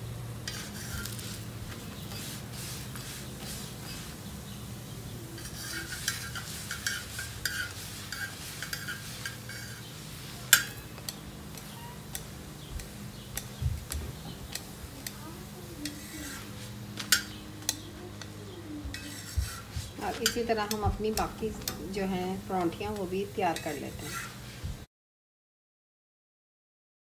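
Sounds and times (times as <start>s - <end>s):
faint sizzle: 0.0s - 24.9s
steady low hum: 0.0s - 24.9s
metal tongs scraping a griddle: 0.4s - 24.6s.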